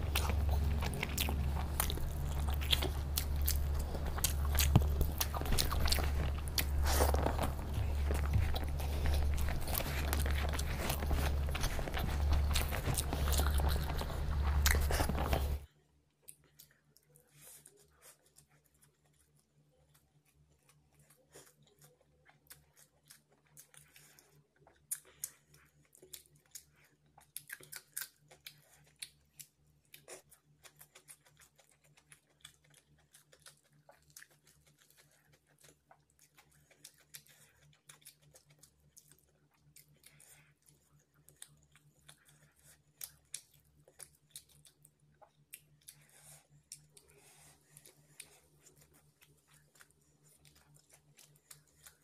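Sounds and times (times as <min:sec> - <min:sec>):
chewing and mouth smacks: 0:00.0 - 0:52.0
faint low hum: 0:00.0 - 0:52.0.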